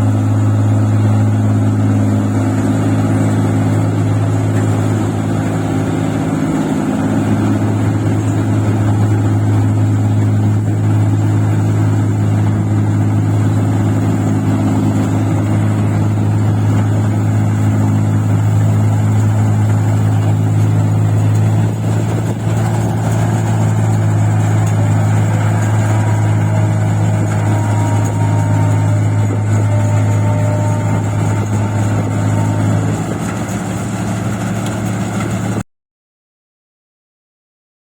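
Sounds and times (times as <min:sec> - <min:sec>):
machine engine running steadily: 0:00.0 - 0:35.6.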